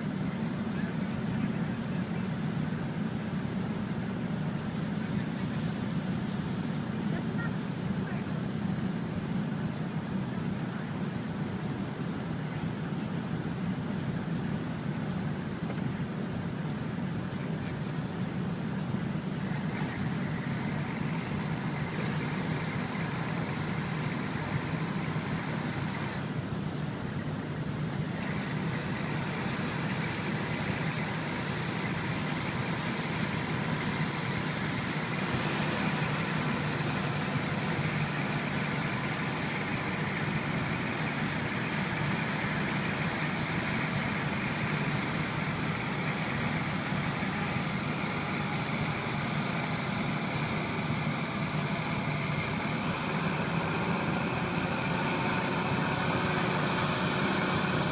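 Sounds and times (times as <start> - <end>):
boat engine rumble: 0.0 - 57.9
water and wind hiss: 0.2 - 57.9.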